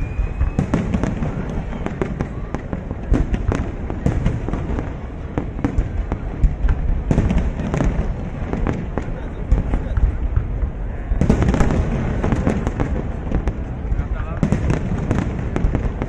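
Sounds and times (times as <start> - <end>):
fireworks bursting with bangs and crackles: 0.0 - 16.0.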